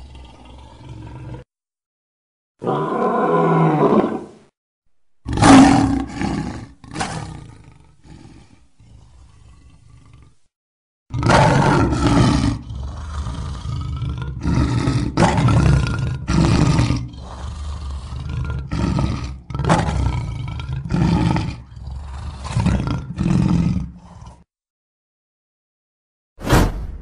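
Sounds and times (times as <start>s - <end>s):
lion roaring: 0.0s - 1.5s, 2.6s - 4.4s, 5.3s - 10.5s, 11.1s - 24.5s.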